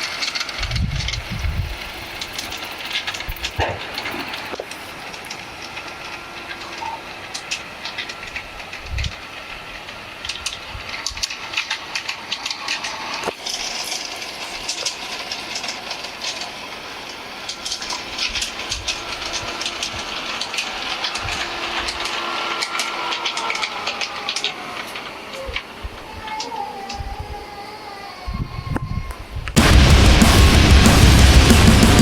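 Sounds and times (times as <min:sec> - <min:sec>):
wheels clicking over rails: 0:00.0 - 0:27.0
model train motor hum: 0:00.0 - 0:28.2.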